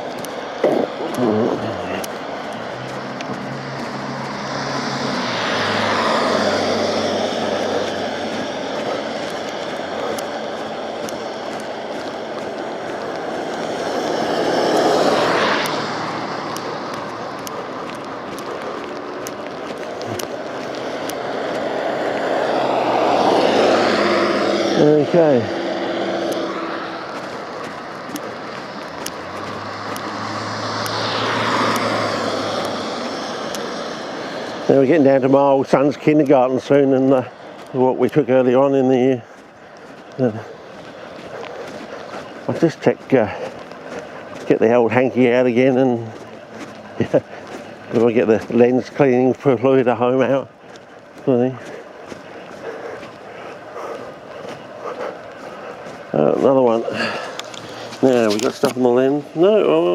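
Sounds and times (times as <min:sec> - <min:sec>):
vehicle engine passing by: 0:00.0 - 0:59.9.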